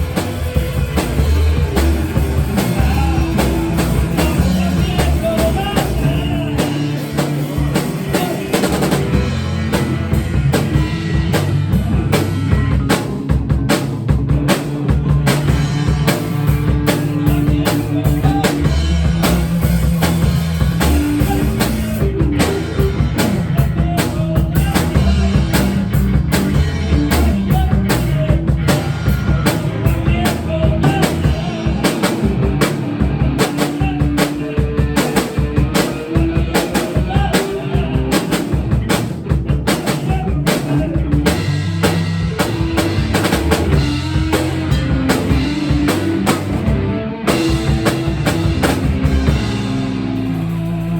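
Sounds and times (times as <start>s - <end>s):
rock music with drums and bass: 0.0s - 50.9s.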